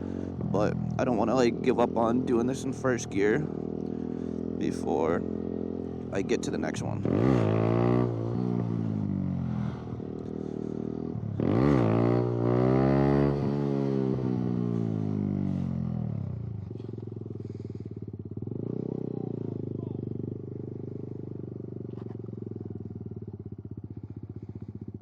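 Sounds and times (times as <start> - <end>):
motorcycle engine idling: 0.0 - 25.0
motorcycle engine revving: 0.0 - 25.0.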